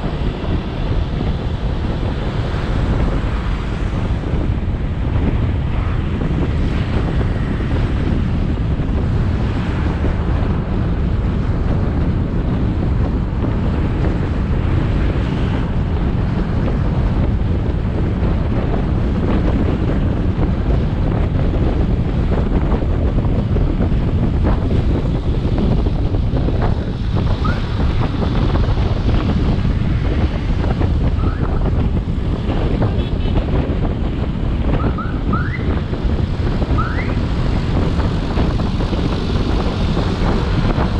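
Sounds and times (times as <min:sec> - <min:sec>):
road noise: 0:00.0 - 0:40.9
wind buffeting microphone: 0:00.0 - 0:40.9.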